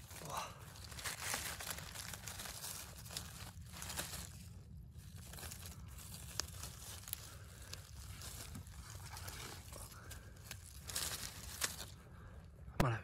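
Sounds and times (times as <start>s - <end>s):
twigs snapping: 0.0s - 12.1s
rustling of dry leaves: 0.0s - 12.6s.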